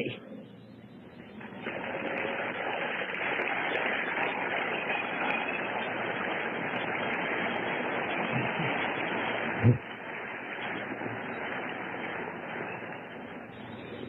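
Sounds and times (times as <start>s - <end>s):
audience applause: 1.4s - 14.0s.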